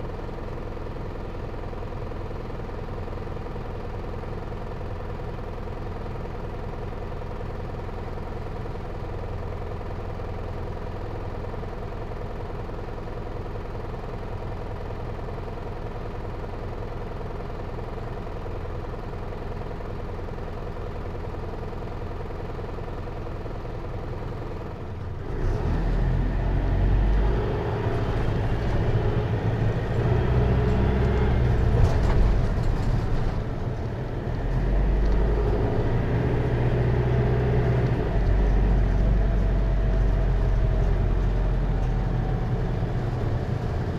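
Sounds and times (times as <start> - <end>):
diesel bus engine: 0.0 - 43.9.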